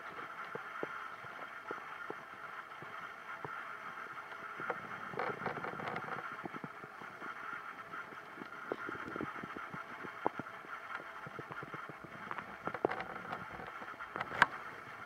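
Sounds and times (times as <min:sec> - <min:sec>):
steady low hiss: 0:00.0 - 0:15.0
stomach gurgling and rumbling: 0:00.0 - 0:15.0.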